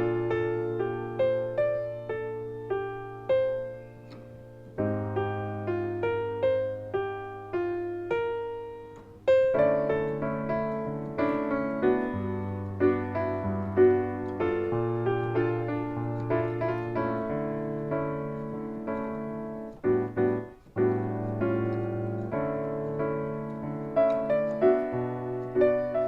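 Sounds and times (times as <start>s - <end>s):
solo piano bossa nova: 0.0s - 26.0s.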